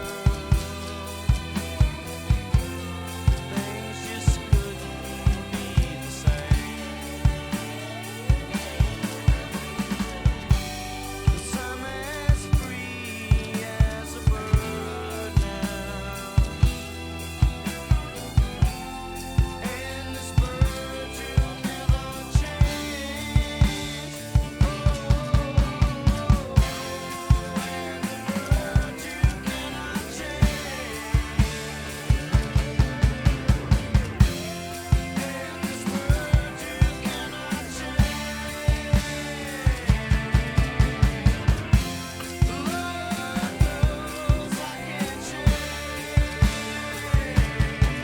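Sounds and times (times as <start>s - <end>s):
drum kit playing: 0.0s - 48.0s
lead guitar line bending: 0.0s - 48.0s
rock music recording: 0.0s - 48.0s.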